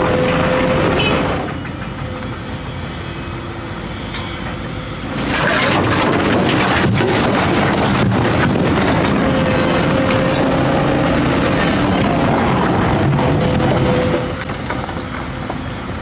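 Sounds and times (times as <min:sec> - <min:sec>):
excavator diesel engine under load: 0:00.0 - 0:16.0.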